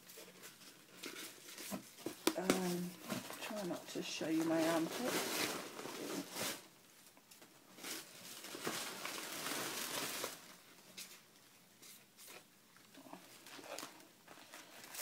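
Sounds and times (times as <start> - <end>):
bubble wrap and polystyrene rustling: 0.0 - 15.0.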